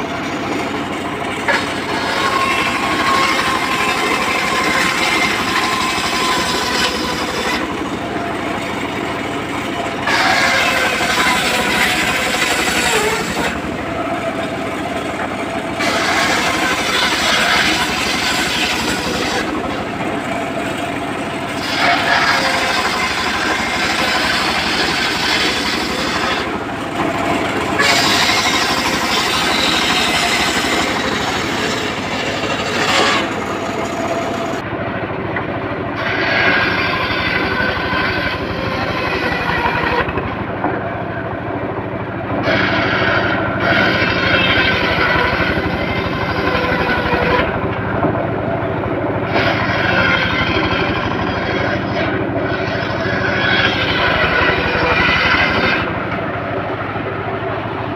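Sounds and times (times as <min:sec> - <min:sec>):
circular saw cutting wood: 0:00.0 - 0:34.7, 0:35.3 - 0:57.9.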